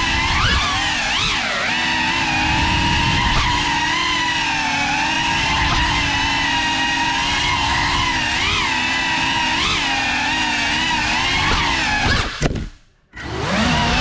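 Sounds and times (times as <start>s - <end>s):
drone propellers whining: 0.0s - 12.5s, 13.1s - 14.0s.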